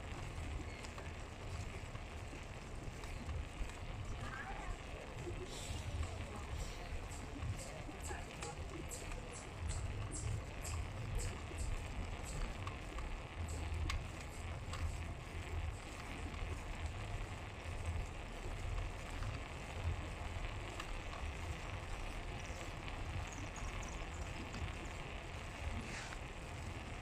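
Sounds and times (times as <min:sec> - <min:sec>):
road noise: 0:00.0 - 0:27.0
faint clicks: 0:00.1 - 0:27.0.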